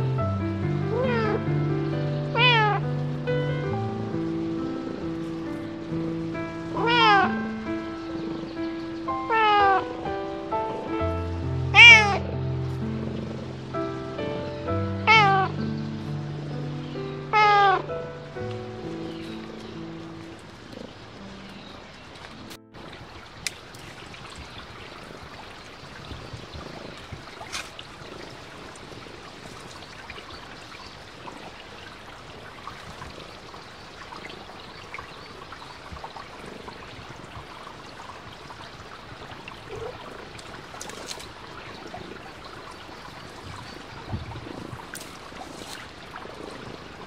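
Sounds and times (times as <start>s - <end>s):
stream rushing water: 0.0s - 47.0s.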